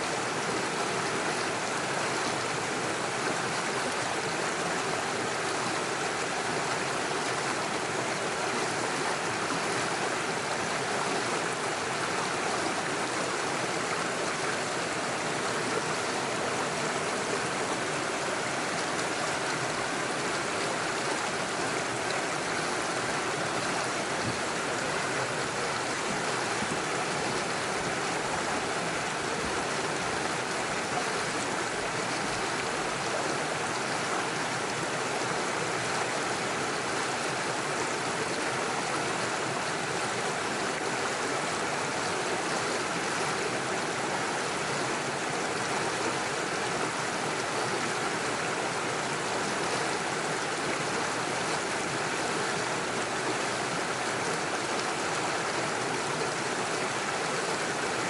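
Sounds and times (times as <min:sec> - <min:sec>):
stream rushing over stones: 0:00.0 - 0:58.0.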